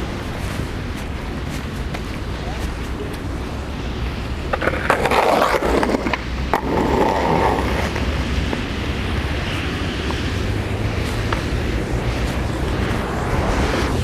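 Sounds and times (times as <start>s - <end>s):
skateboard clacks: 0.0s - 3.3s, 4.4s - 12.4s
skateboard wheels rolling on pavement: 0.0s - 14.0s.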